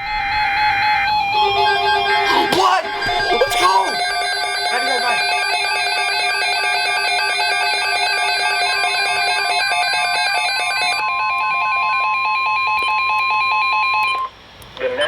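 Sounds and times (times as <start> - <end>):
warbling electronic alarm: 0.0 - 14.4
steady single-pitch warning tone: 0.0 - 14.5.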